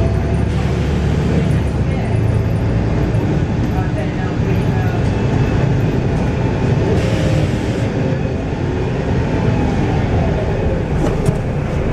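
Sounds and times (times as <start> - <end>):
bus diesel engine rumbling: 0.0 - 11.9.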